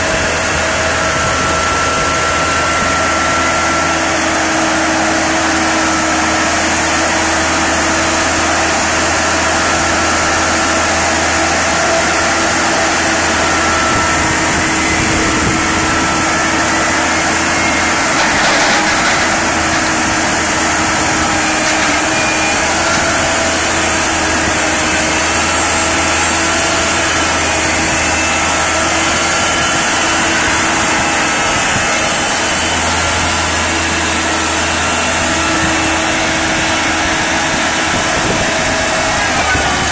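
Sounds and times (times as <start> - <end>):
crane diesel engine running: 0.0 - 39.9
high whine: 0.0 - 39.9.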